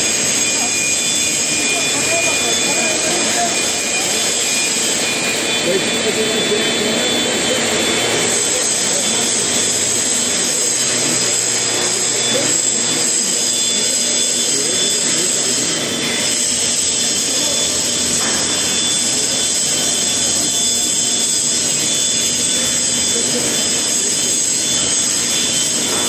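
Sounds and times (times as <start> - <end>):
welding machine hissing: 0.0 - 26.0.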